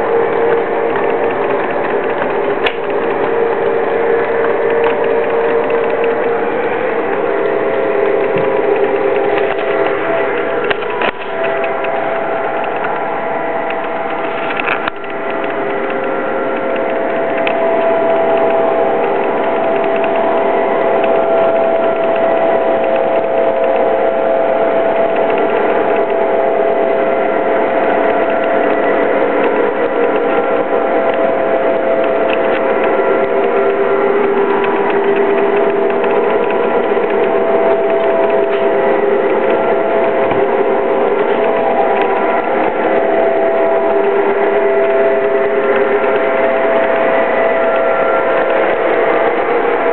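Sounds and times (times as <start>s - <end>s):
model train wheels clattering: 0.0s - 49.9s
steady motor whine: 0.0s - 49.9s.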